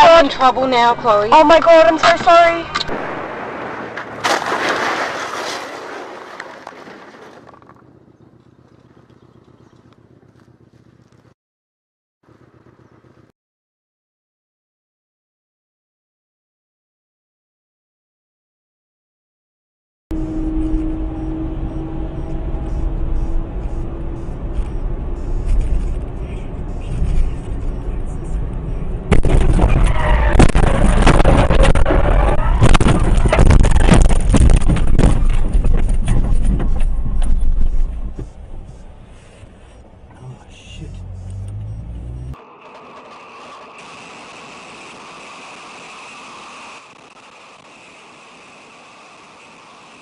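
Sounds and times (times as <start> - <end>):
car tyre and road noise: 0.0 - 11.4, 12.2 - 13.3, 20.1 - 50.0.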